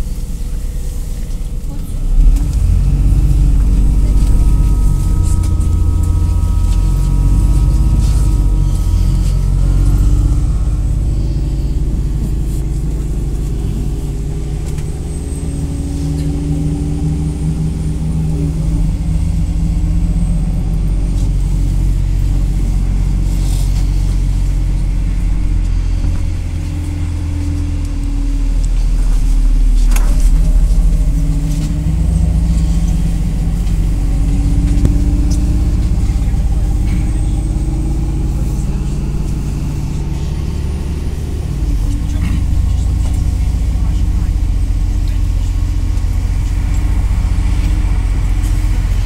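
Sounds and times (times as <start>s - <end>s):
bus engine hum: 0.0s - 49.0s.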